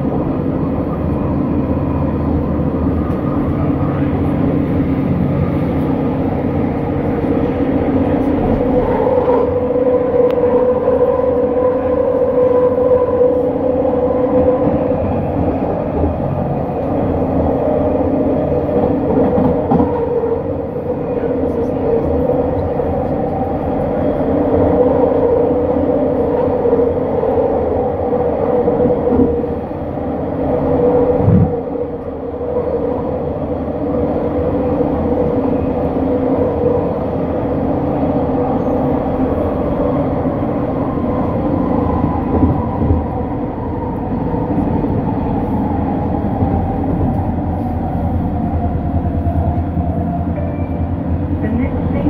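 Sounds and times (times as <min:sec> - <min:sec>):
train wheel rumble: 0:00.0 - 0:52.0.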